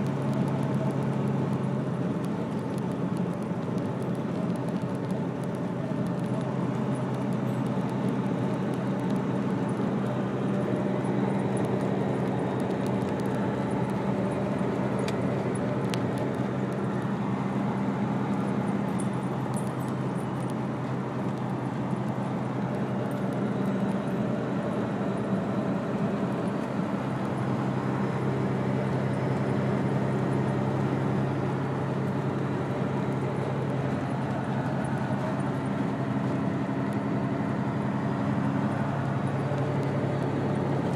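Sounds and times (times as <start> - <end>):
vehicle engine droning: 0.0 - 40.9.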